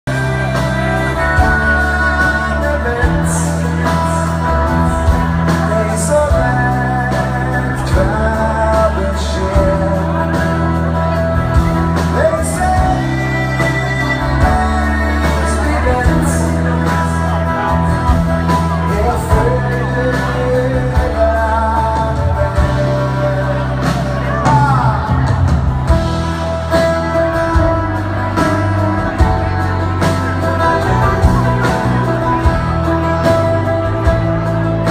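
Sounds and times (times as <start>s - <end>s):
live band music: 0.0s - 34.9s
man singing: 0.0s - 34.9s.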